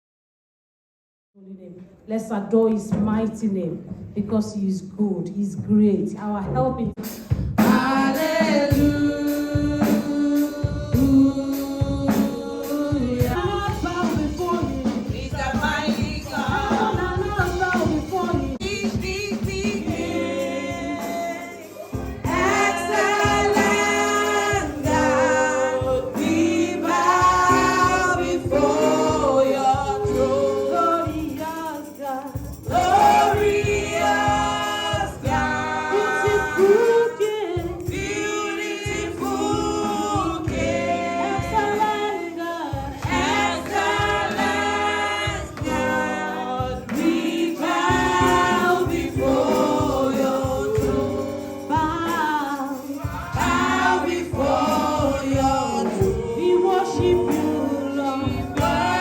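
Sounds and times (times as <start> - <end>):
steady drum beat: 5.6 - 59.0
group singing gospel song: 7.0 - 59.0.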